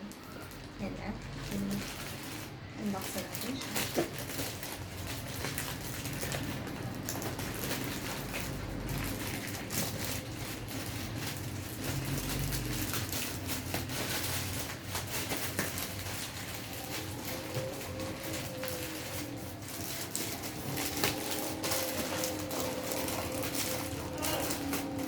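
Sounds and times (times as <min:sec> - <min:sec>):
packaging rustling and crinkling: 0:00.0 - 0:25.0.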